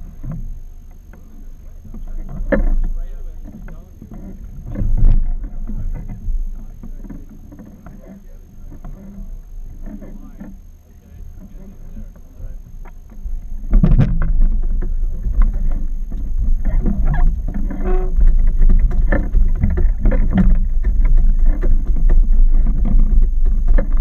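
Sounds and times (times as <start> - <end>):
boat engine low rumble: 0.0 - 24.0.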